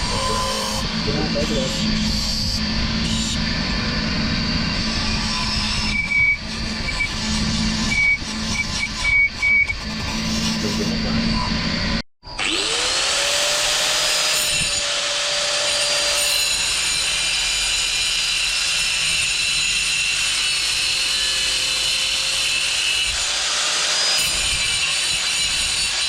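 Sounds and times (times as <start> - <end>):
electric power tool whining: 0.0 - 26.0.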